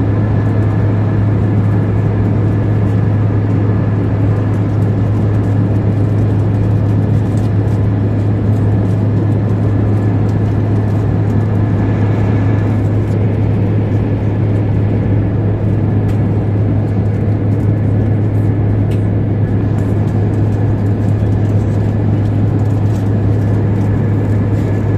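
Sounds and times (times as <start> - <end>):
jet cabin engine rush: 0.0 - 24.9.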